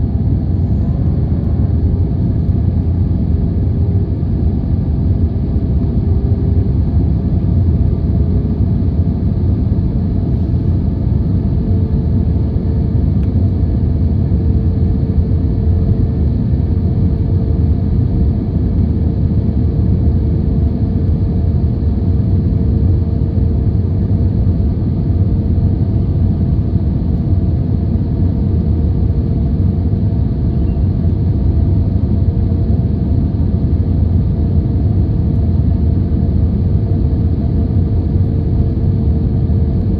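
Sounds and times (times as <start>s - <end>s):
jet engine rumble and hum: 0.0s - 39.9s.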